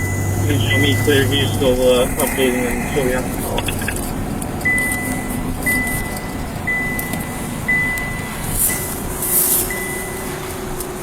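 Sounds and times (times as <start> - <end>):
vehicle warning beeps: 0.0 - 4.0, 4.6 - 11.0
low vehicle rumble: 0.0 - 11.0.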